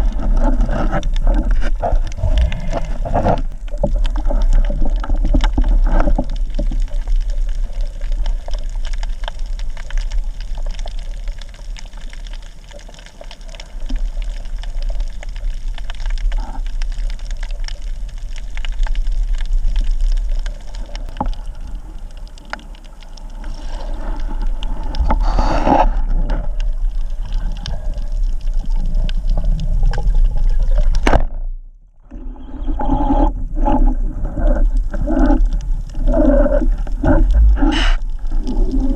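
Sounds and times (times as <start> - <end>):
clicks and crackles: 0.0 - 38.9
underwater water rush: 0.0 - 38.9
water gushing: 0.0 - 38.9.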